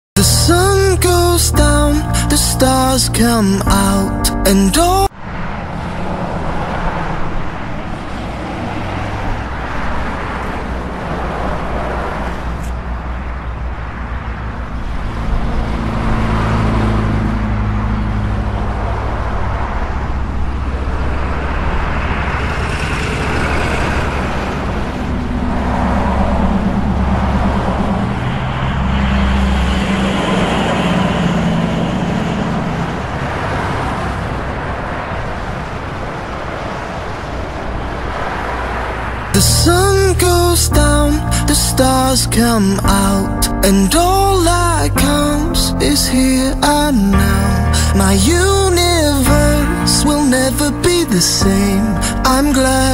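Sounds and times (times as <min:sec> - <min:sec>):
road traffic rumble: 0:00.2 - 0:52.9.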